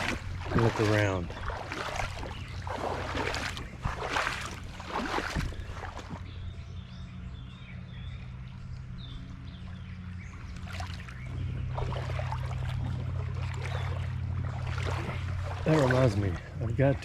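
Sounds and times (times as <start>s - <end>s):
boots splashing through water: 0.0s - 6.5s, 9.7s - 17.0s
steady low hum: 0.0s - 17.0s.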